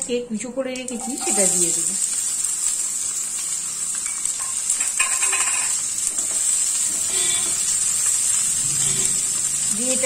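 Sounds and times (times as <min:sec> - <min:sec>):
onions sizzling in oil: 0:00.7 - 0:10.0.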